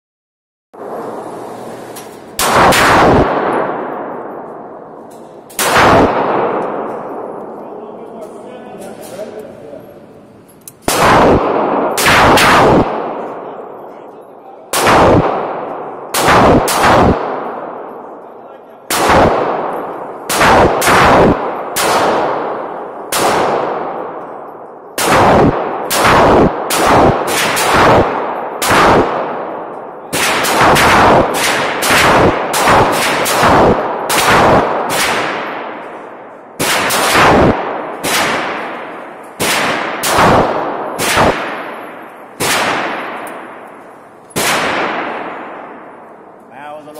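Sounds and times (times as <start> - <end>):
loud gunshots with echo: 2.2 - 8.4, 10.8 - 46.4.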